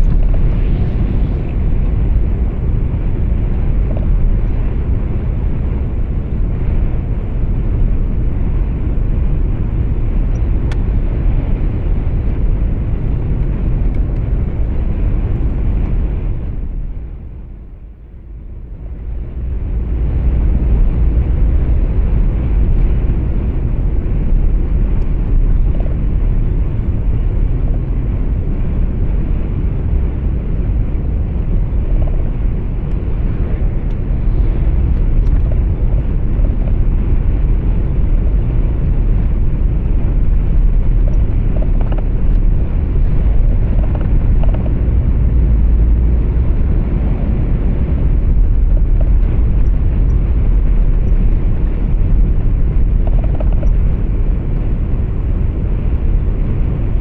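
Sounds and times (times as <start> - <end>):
truck engine and tyre rumble: 0.0 - 57.0.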